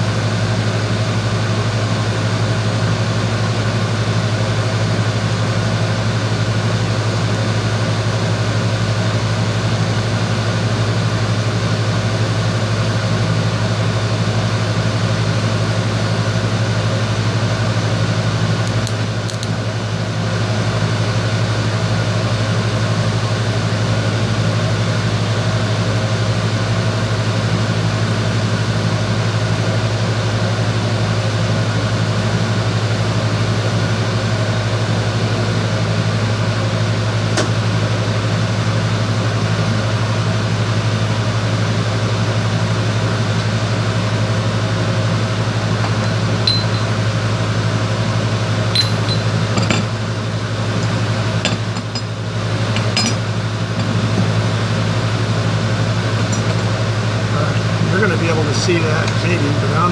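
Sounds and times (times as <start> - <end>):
electrical hum with fan drone: 0.0 - 59.9.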